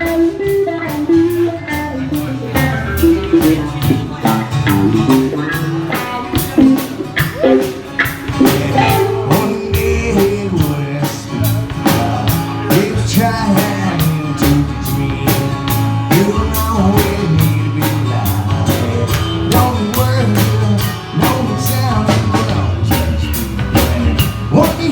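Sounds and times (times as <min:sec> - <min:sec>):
person singing: 0:00.0 - 0:24.9
rock band music: 0:00.0 - 0:24.9
steady drum beat: 0:00.0 - 0:24.9.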